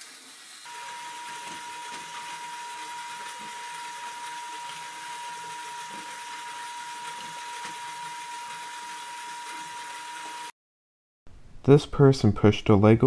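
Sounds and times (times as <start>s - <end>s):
toy electric motor and gears whirring: 0.0s - 10.5s.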